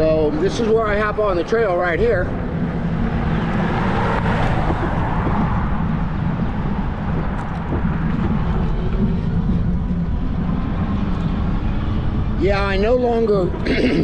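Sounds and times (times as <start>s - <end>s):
wind on microphone: 0.0s - 13.7s.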